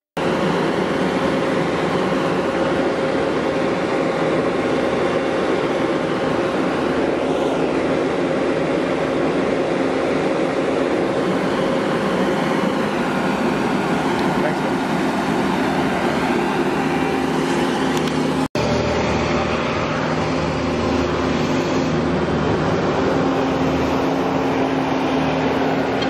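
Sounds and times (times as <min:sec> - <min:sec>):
road roller diesel engine running: 0:00.2 - 0:26.0.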